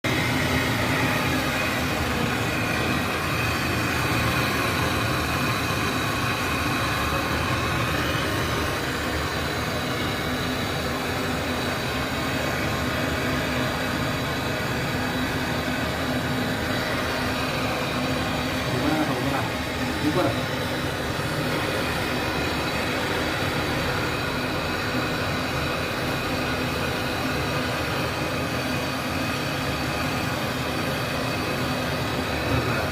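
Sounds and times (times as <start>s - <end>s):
torch flame hissing: 0.1s - 32.9s.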